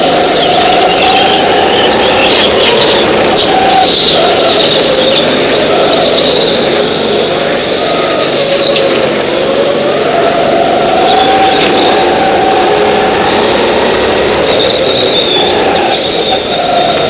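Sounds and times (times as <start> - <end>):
go-kart engine at high revs: 0.0 - 17.0.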